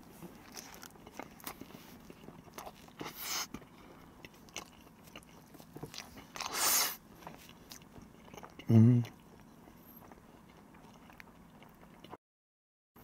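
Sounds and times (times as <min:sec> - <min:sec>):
chewing crunchy toast: 0:00.0 - 0:12.2.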